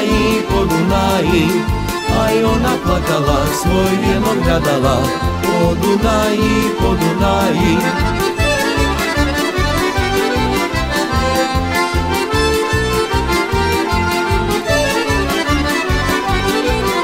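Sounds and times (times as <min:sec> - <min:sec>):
folk band instrumental: 0:00.0 - 0:17.0.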